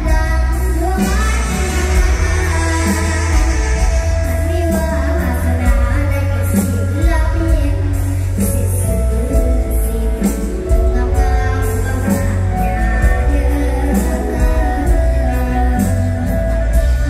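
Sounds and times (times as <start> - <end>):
amplified live band music: 0.0 - 17.0
bass beat: 0.0 - 17.0
person singing: 0.0 - 17.0.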